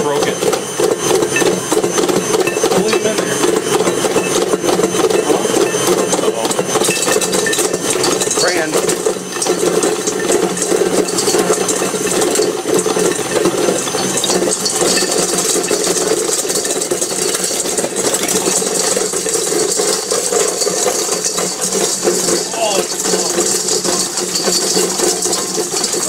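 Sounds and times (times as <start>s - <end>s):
mixer motor hum: 0.0s - 26.0s
plastic bits clattering in bowl: 0.0s - 26.0s.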